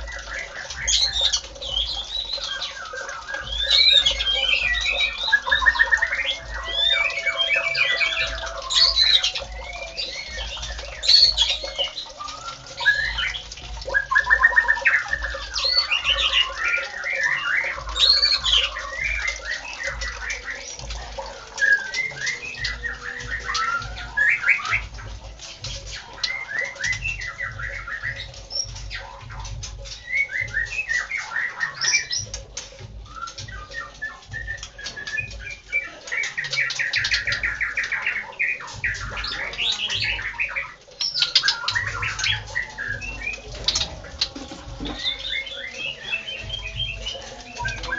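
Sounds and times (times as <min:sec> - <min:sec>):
songbird whistling and trilling: 0:00.0 - 0:47.9.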